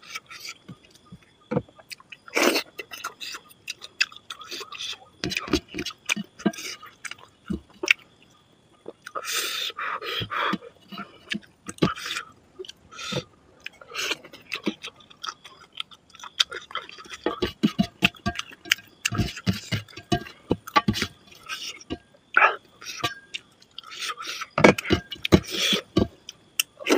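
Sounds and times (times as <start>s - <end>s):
wet chewing and lip-smacking: 0.2s - 9.3s, 10.9s - 26.9s.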